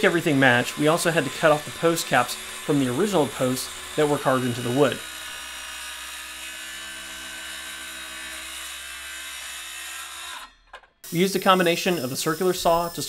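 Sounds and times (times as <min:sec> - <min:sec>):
circular saw cutting wood: 0:00.0 - 0:13.0.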